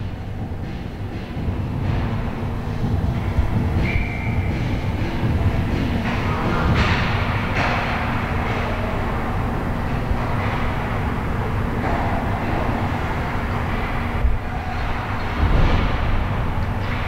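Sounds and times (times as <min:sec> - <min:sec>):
low rumble and hum: 0:00.0 - 0:17.0.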